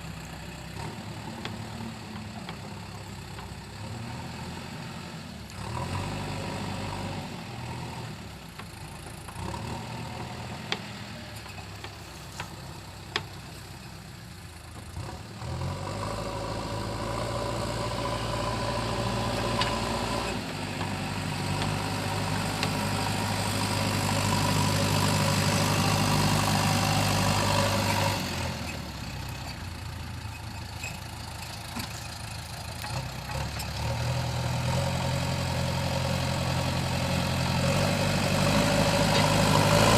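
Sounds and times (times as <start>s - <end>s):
diesel engine revving: 0.0s - 13.7s, 14.7s - 39.9s.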